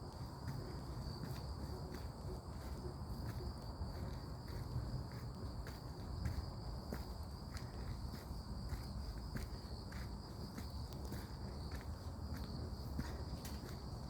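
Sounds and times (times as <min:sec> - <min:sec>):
footsteps on forest path: 0:00.0 - 0:14.0.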